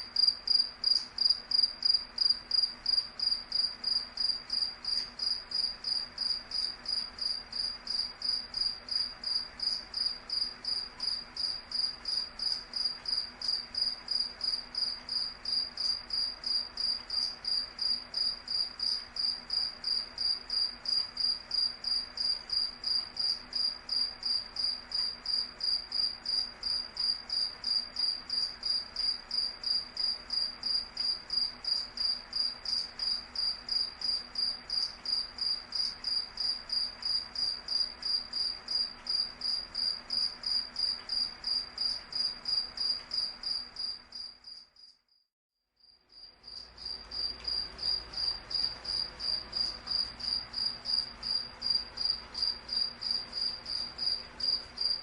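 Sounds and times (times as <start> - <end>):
cricket chirping: 0.0 - 45.2, 45.8 - 55.0.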